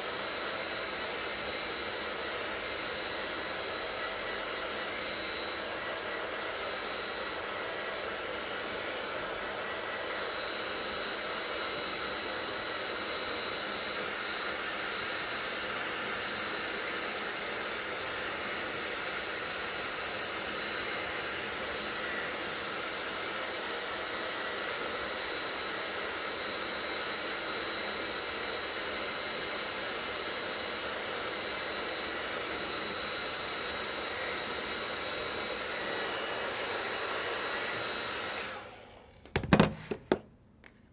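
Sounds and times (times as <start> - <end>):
hair dryer blowing air: 0.0 - 40.2.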